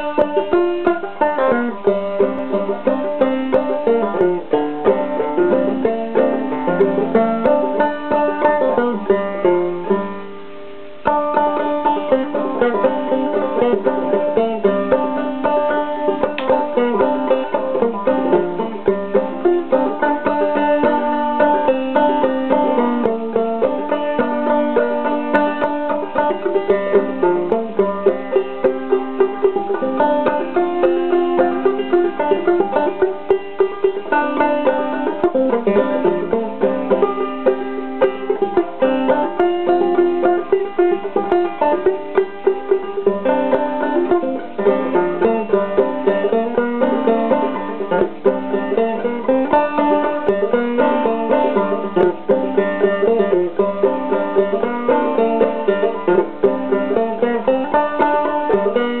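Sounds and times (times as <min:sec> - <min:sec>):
banjo played clawhammer style: 0:00.0 - 0:59.0.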